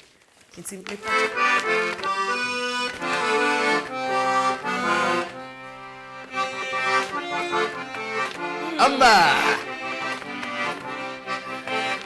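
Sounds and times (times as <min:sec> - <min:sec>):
piano accordion playing tune: 0:01.0 - 0:12.0.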